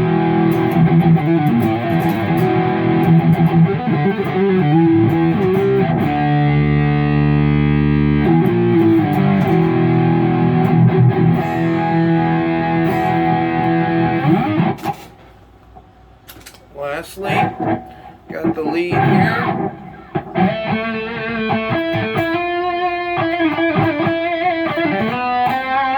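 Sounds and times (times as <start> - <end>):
distorted electric guitar chords: 0.0 - 15.1, 17.3 - 25.9.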